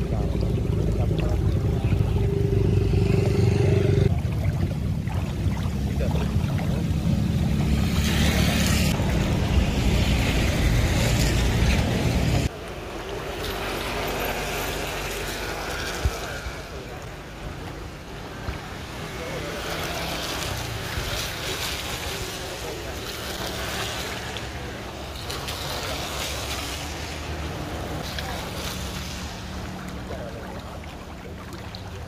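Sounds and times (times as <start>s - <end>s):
vehicle engine drone: 0.0s - 4.2s, 5.4s - 30.8s
road and water noise: 0.0s - 32.0s.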